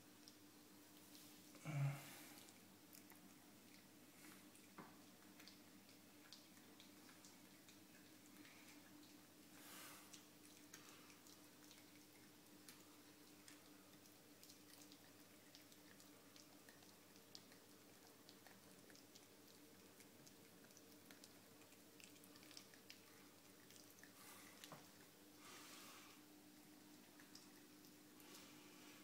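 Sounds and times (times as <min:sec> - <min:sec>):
cat chewing wet crunching: 0:02.4 - 0:28.9.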